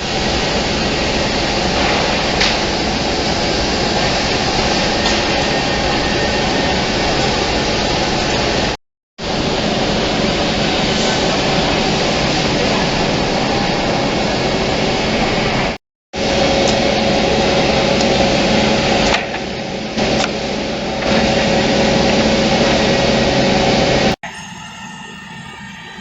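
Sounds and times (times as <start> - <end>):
wood cutting machine running: 0.0 - 26.0.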